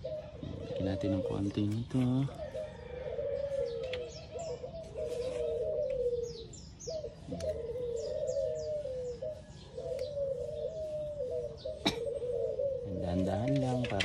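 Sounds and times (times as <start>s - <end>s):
low wavering bird cooing: 0.0s - 14.0s.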